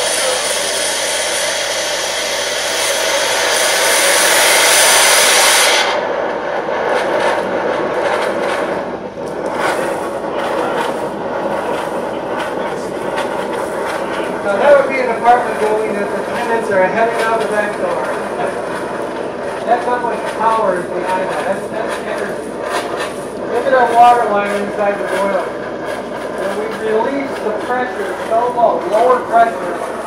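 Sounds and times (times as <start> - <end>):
steam hissing from vent pipe: 0.0 - 30.0.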